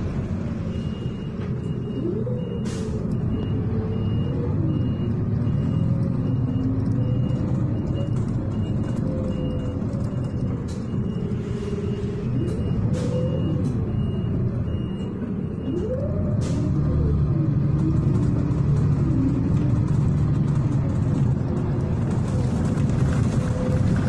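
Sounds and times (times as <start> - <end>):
bus engine rumbling: 0.0 - 24.0.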